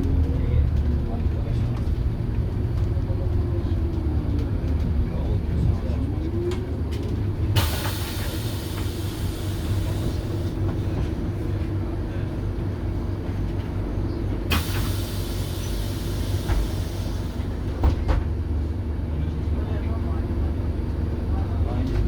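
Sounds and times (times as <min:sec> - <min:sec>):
bus diesel engine whining: 0:00.0 - 0:22.0.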